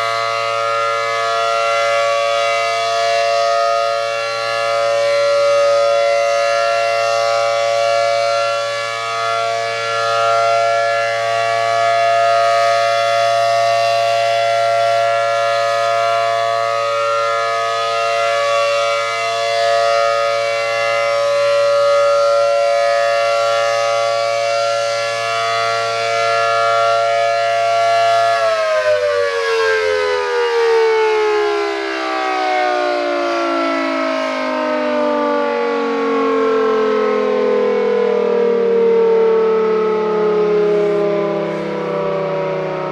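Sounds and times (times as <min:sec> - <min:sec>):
rotating warning siren: 0:00.0 - 0:42.9
siren winding down: 0:00.0 - 0:42.9.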